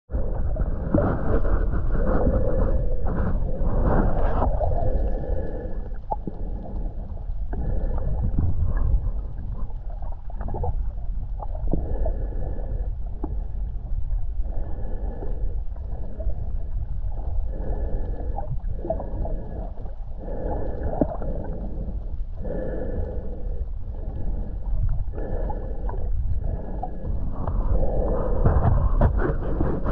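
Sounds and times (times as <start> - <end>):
breathing through a snorkel: 0.1 - 10.2, 11.6 - 13.8, 14.4 - 29.9.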